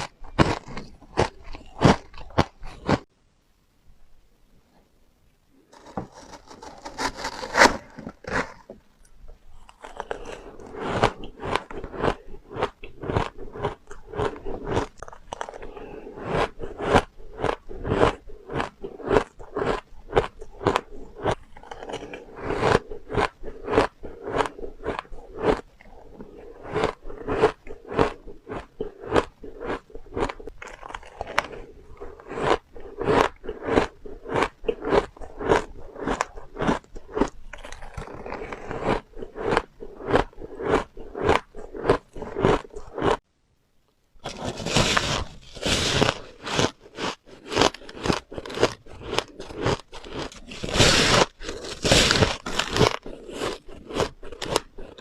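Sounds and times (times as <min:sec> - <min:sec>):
ice crunching being chewed: 0:00.0 - 0:03.1, 0:05.8 - 0:08.6, 0:09.5 - 0:43.2, 0:44.2 - 0:55.0.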